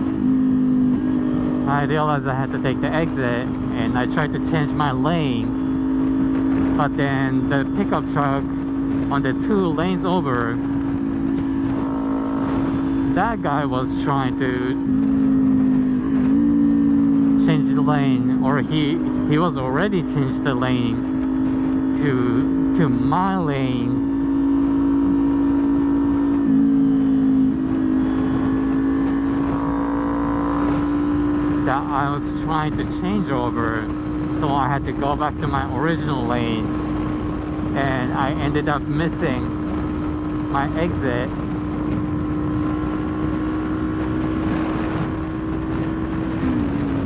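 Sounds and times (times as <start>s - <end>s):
motorcycle engine cruising: 0.0s - 47.0s
wind noise on microphone: 3.1s - 47.0s.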